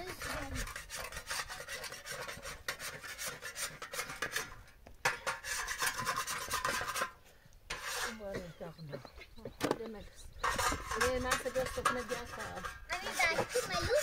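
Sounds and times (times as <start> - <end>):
metal spatula scraping griddle: 0.0 - 8.4, 10.4 - 14.0.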